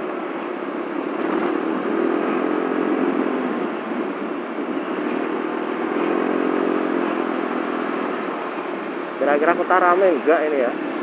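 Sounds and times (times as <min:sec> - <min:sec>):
road and wind noise: 0:00.0 - 0:11.0
scooter engine drone: 0:00.0 - 0:11.0.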